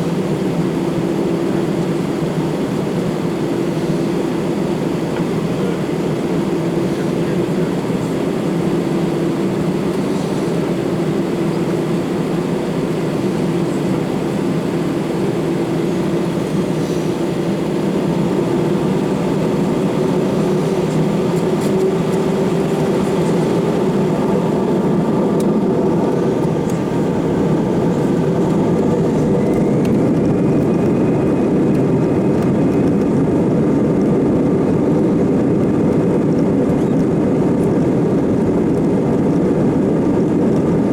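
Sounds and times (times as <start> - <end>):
faint engine whine: 0.0 - 40.9
jet engine cabin rumble: 0.0 - 40.9.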